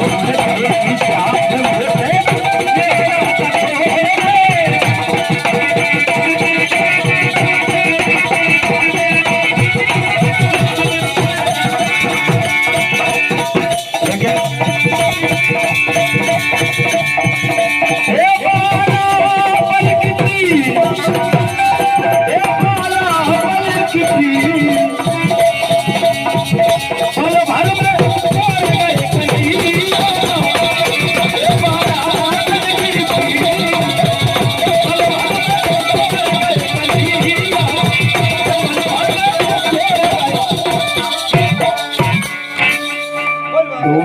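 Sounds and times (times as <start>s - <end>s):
hand drums rhythm: 0.0s - 44.0s.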